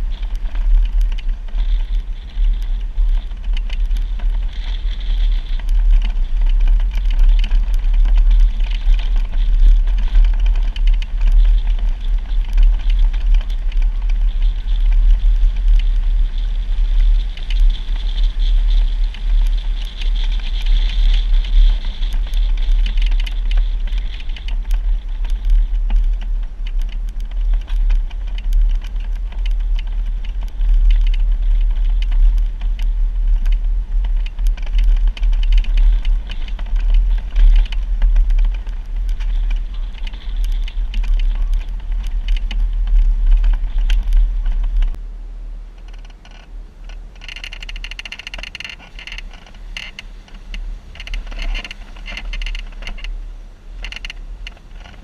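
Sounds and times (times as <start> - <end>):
gravel crunching under tyres: 0.0 - 45.0, 45.7 - 55.0
vehicle engine rumble: 0.0 - 55.0.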